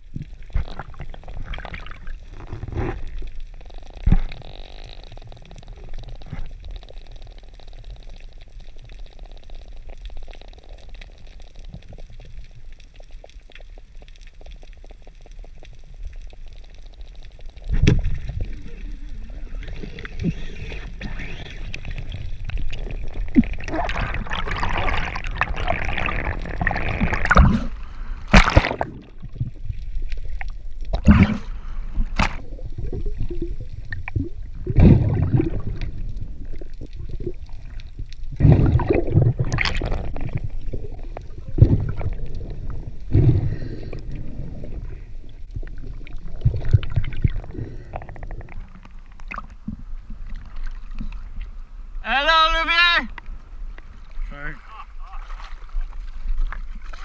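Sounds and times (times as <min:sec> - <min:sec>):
water rushing underwater: 0:00.0 - 0:52.0.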